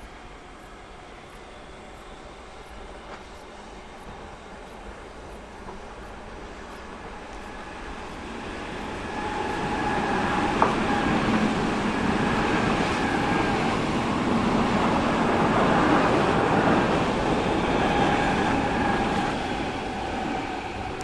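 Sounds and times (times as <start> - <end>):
train running: 0.0 - 21.0.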